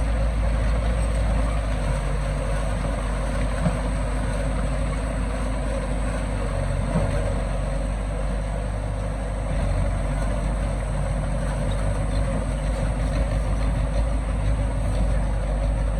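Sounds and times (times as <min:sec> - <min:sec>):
heavy diesel engine running: 0:00.0 - 0:15.9.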